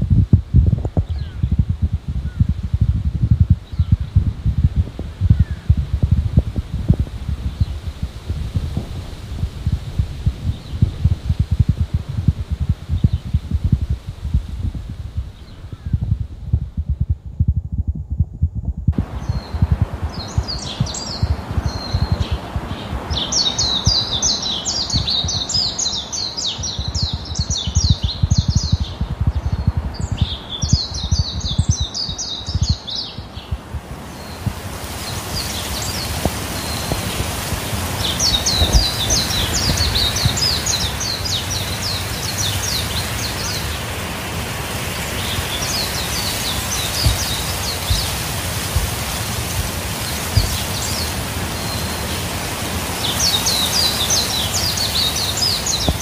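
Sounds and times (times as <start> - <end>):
wind hissing: 0.0 - 17.4, 18.8 - 56.0
songbirds chirping: 0.2 - 16.1, 19.0 - 56.0.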